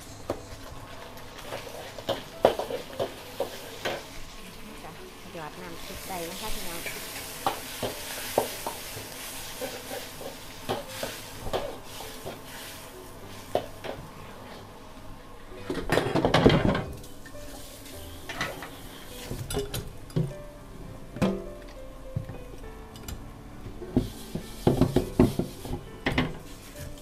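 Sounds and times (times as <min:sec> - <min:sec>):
sizzling in a hot pan: 0:00.0 - 0:15.0, 0:16.3 - 0:20.4, 0:23.8 - 0:27.0.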